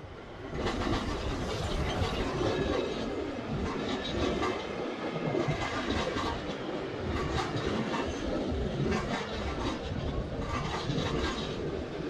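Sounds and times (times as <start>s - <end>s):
train wheels clattering over rail joints: 0.5s - 4.8s, 5.4s - 11.9s.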